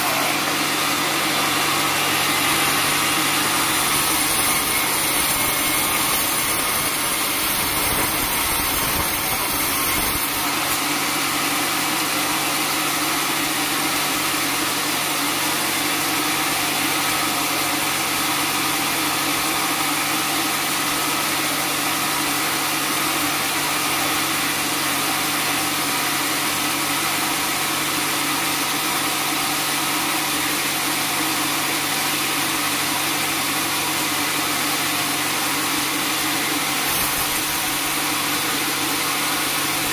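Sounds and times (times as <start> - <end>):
sawmill machine hum: 0.0 - 39.9.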